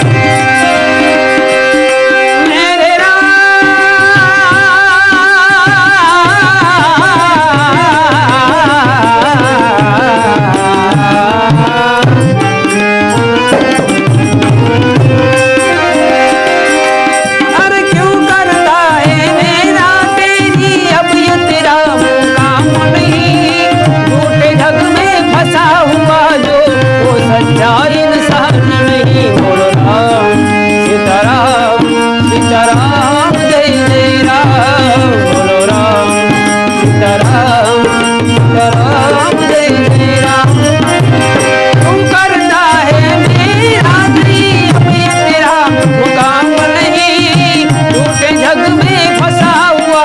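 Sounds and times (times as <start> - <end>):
harmonium notes: 0.0 - 50.0
tabla rhythm: 0.0 - 50.0.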